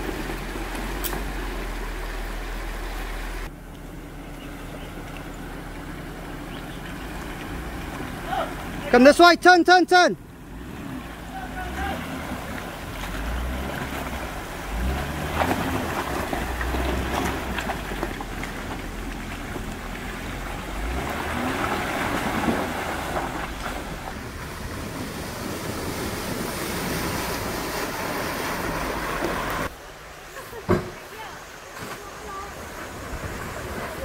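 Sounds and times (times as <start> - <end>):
water splashing around tyres: 0.0 - 9.2, 10.2 - 34.0
car engine running: 0.0 - 30.2.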